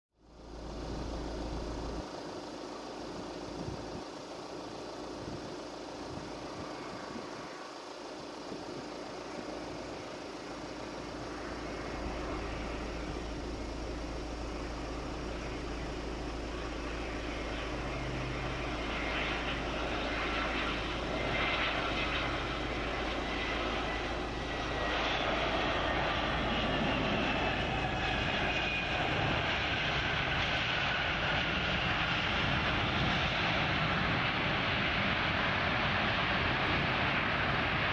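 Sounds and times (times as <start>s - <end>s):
high engine whines: 0.2s - 37.9s
jet engines rushing: 0.4s - 37.9s.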